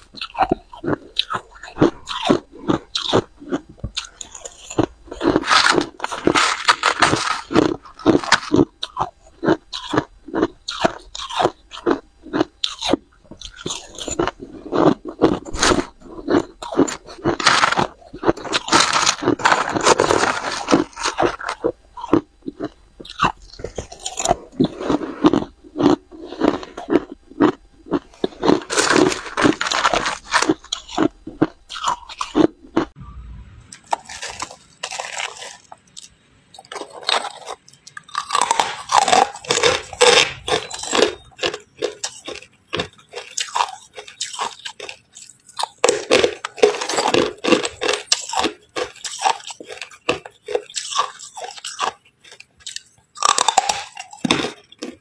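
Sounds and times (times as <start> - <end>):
ice being chewed: 0.0 - 33.0, 33.8 - 55.0.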